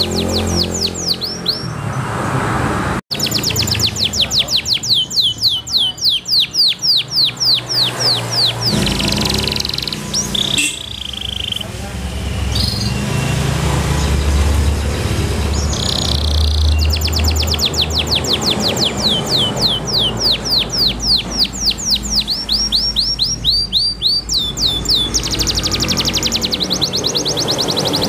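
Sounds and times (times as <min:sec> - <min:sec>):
canary singing: 0:00.0 - 0:02.3, 0:03.1 - 0:28.0.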